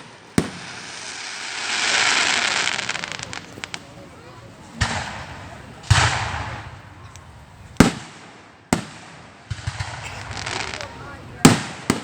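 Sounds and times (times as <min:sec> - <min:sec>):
firework burst: 0:00.0 - 0:12.0
sharp firework bangs: 0:00.0 - 0:12.0.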